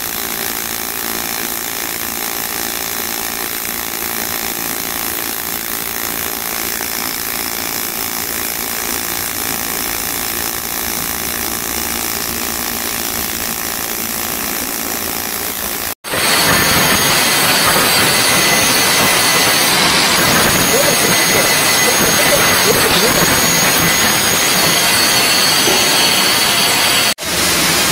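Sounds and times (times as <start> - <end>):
welding arc hissing: 0.3 - 27.9
angle grinder grinding metal: 1.3 - 27.9.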